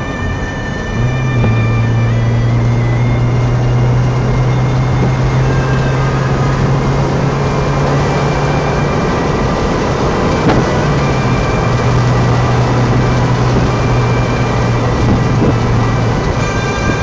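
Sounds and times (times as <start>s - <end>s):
car engine pulling: 0.0s - 17.0s
wind noise: 0.0s - 17.0s.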